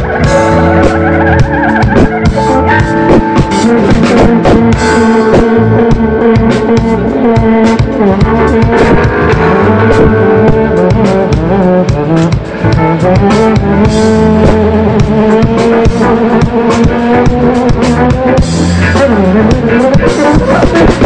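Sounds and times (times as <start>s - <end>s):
drum kit steady beat: 0.0s - 21.0s
live band playing loudly: 0.0s - 21.0s.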